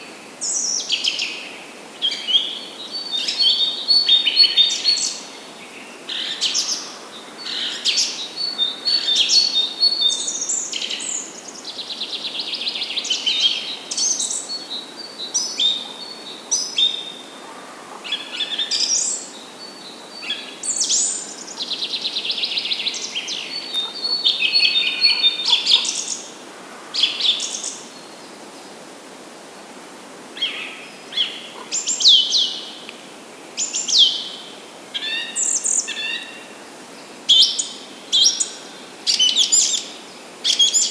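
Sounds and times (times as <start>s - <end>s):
songbirds singing and calling: 0.0s - 28.4s, 30.4s - 40.9s
faint steady hiss: 0.0s - 40.9s.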